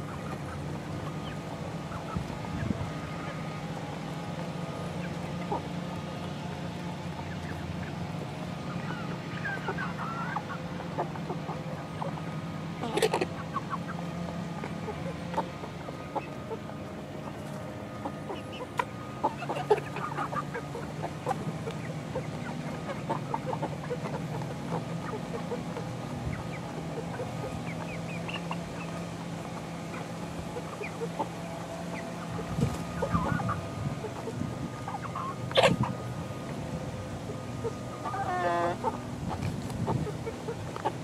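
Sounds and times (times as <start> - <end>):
chickens clucking and peeping: 0.0 - 41.0.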